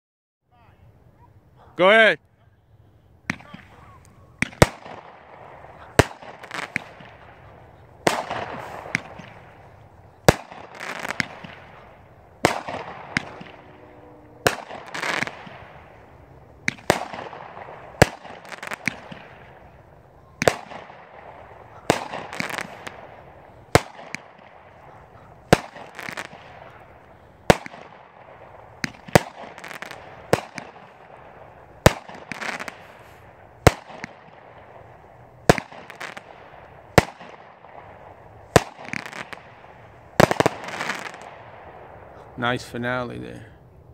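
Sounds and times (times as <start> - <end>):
firework reports: 0.5 - 43.8
fizzing crackle of fireworks: 3.2 - 43.5.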